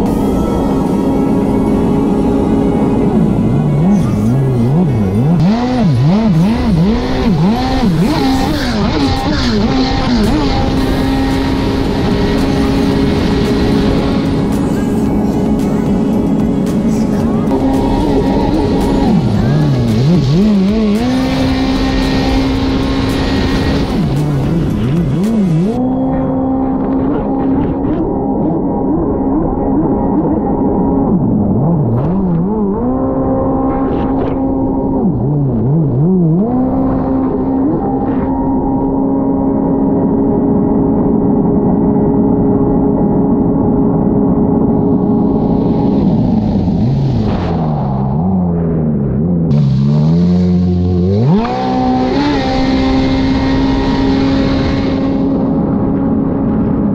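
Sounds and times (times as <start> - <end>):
jet ski engine revving: 0.0 - 40.0, 44.8 - 56.8.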